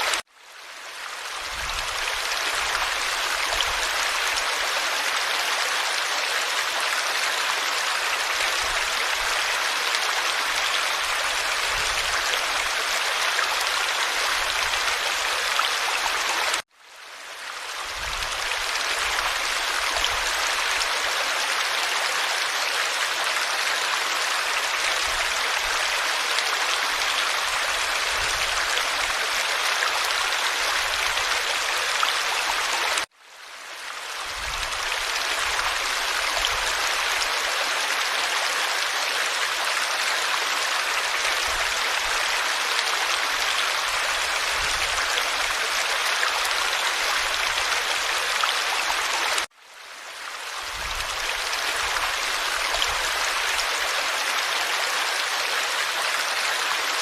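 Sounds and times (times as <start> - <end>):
stream rushing and babbling: 0.0 - 57.0.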